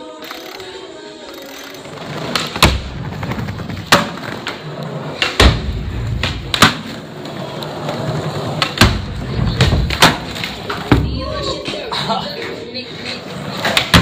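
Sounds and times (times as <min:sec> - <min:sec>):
skateboard wheels rolling on concrete: 0:01.8 - 0:14.0.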